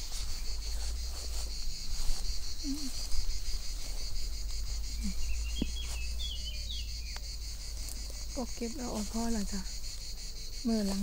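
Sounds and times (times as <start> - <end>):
bird chirping: 0.0 - 10.6
insects trilling: 0.0 - 11.0.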